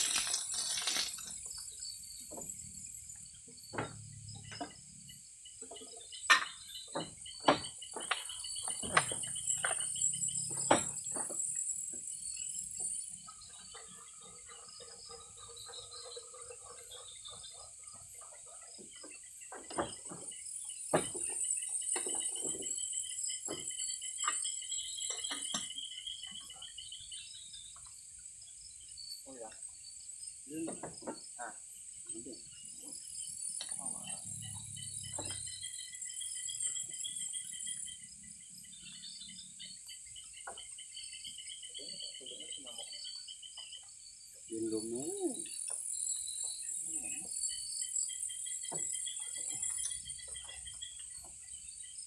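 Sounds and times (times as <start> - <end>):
night insects chirping: 0.0 - 52.0.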